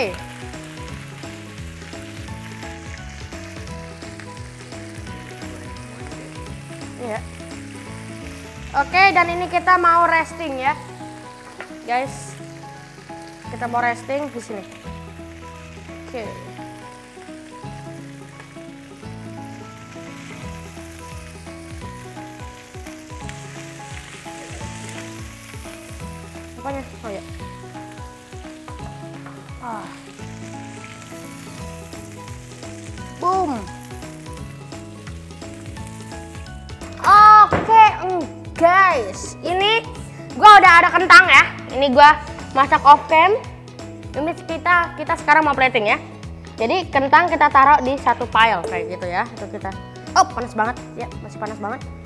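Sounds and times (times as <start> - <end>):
chicken sizzling in butter: 0.0 - 51.8
background music: 0.0 - 52.0.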